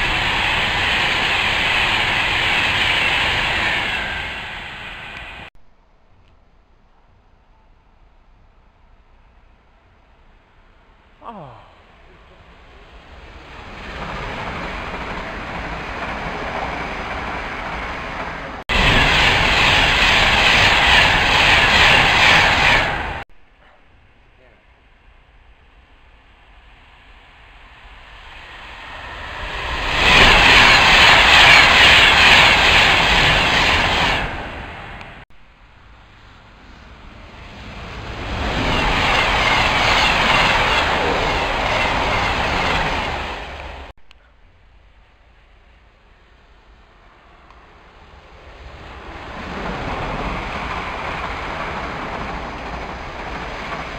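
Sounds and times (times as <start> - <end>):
train passing on rails: 0.0 - 5.5, 6.9 - 23.3, 24.0 - 53.9.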